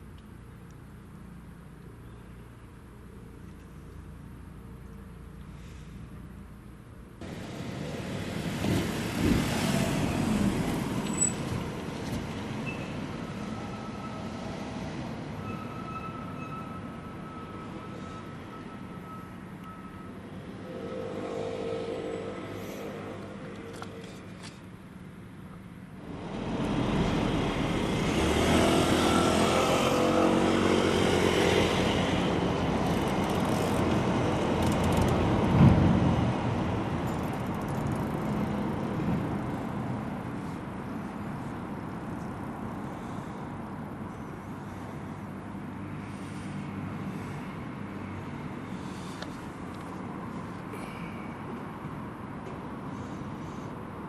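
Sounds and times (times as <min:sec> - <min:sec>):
diesel railcar passing: 0:07.2 - 0:54.0.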